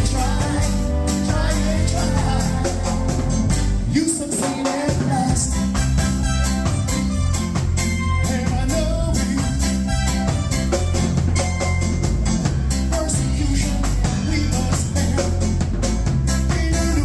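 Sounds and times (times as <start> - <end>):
reggae song: 0.0 - 17.0.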